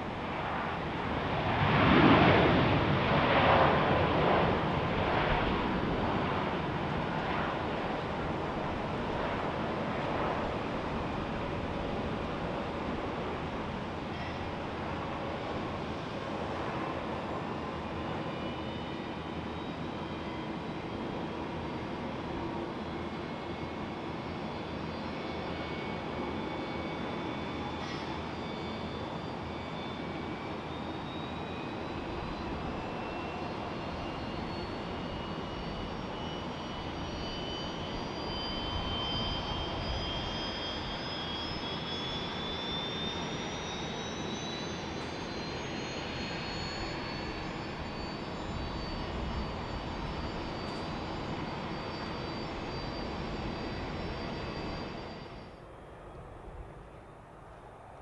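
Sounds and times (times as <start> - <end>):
jet engines rushing and whining: 0.0 - 58.0.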